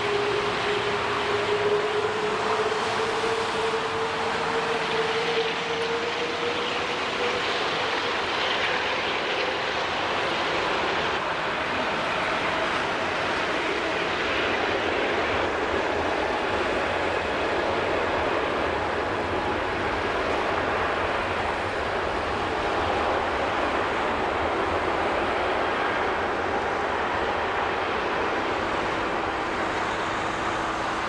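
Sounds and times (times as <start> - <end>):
jet engine rumble and whine: 0.0 - 31.0.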